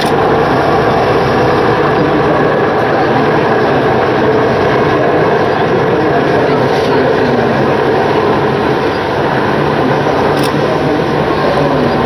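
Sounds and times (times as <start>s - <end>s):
helicopter hovering roar: 0.0s - 12.0s.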